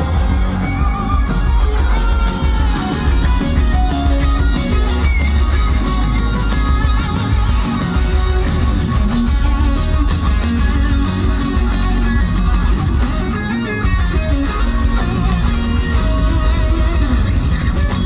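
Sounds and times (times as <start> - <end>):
electric guitar: 0.0 - 18.0
heavy bass: 0.0 - 18.0
live band music: 0.0 - 18.0.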